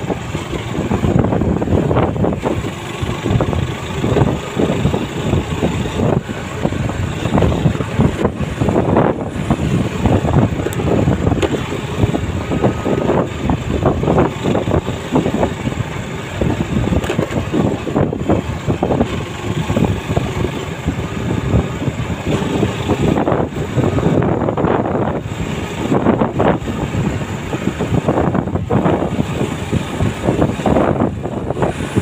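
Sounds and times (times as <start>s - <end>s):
vehicle on dirt road: 0.0s - 32.0s
wind buffeting microphone: 0.0s - 32.0s.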